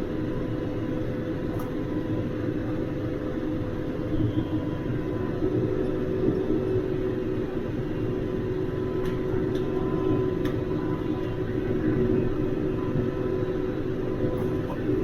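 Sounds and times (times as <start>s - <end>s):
tractor engine drone: 0.0s - 15.0s.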